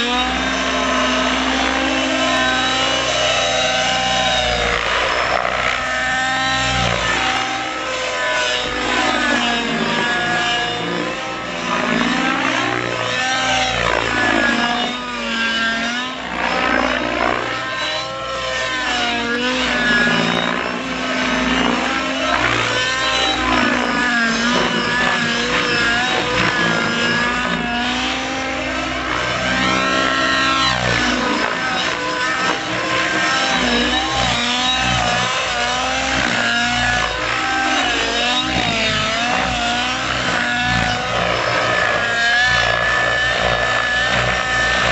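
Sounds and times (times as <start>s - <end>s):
model airplane engine revving: 0.0s - 44.9s.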